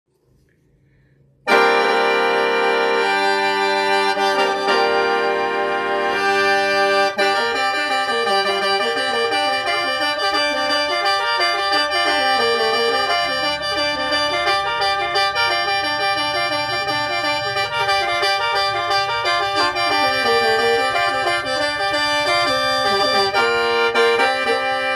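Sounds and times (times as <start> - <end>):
bamboo mouth organ playing: 1.5 - 24.9.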